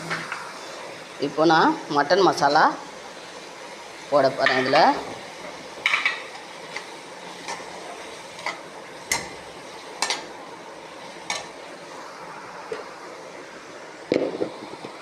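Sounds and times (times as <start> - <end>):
masala sizzling in a pan: 0.0 - 15.0.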